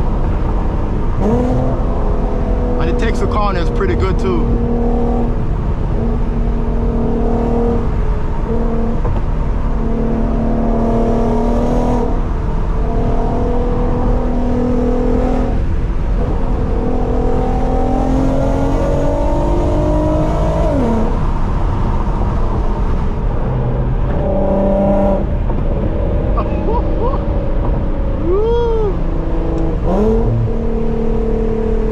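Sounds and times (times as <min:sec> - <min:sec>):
car engine while driving: 0:00.0 - 0:31.9
low road rumble: 0:00.0 - 0:31.9.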